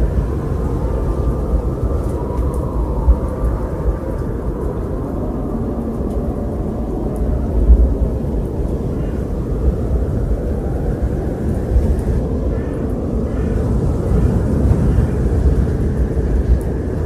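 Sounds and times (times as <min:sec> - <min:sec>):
wind blowing with deep rumble: 0:00.0 - 0:17.0.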